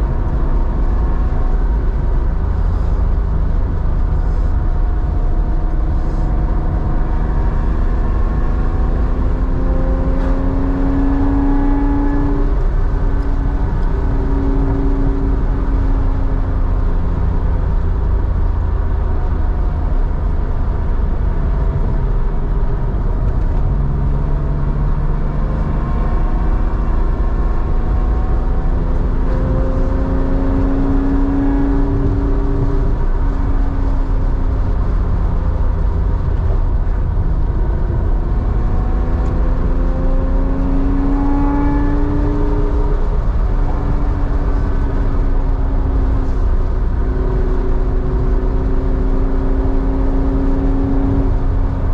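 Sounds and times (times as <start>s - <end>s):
car exhaust drone accelerating: 0.0s - 51.9s.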